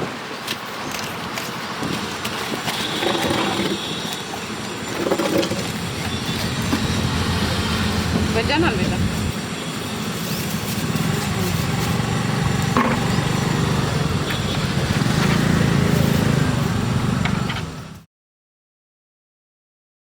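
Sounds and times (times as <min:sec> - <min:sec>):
vehicle engines rumbling: 0:00.2 - 0:18.0.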